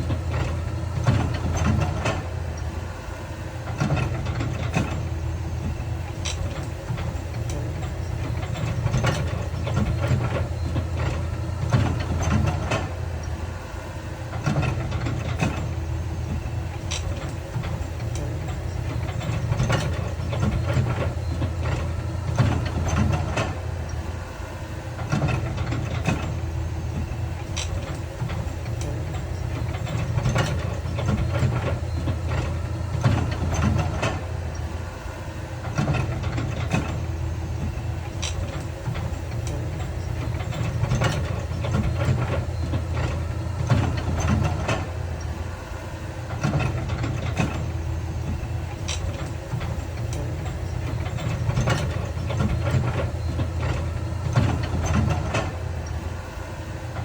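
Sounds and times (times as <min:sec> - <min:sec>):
diesel earthmoving machinery running: 0:00.0 - 0:57.0.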